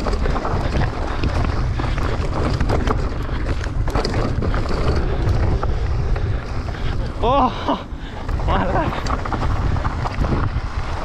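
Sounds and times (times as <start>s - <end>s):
bike knocks and rattles: 0.0s - 7.4s, 8.2s - 11.0s
mountain bike rolling on dirt: 0.0s - 11.0s
wind buffeting microphone: 0.0s - 11.0s.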